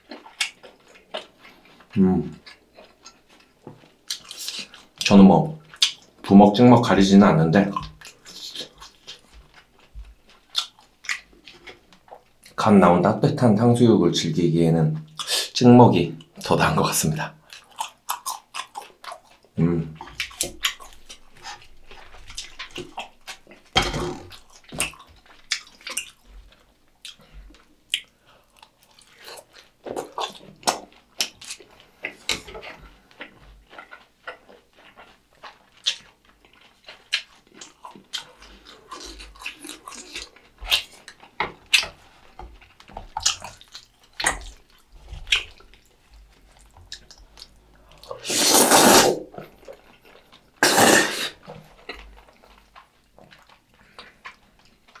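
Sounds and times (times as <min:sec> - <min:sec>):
close-miked chewing: 0:00.0 - 0:12.6, 0:14.2 - 0:55.0.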